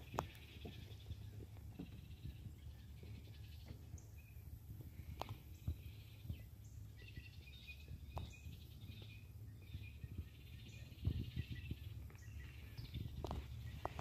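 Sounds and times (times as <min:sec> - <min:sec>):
distant birds chirping: 0:00.0 - 0:14.0
steady low rumble: 0:00.0 - 0:14.0.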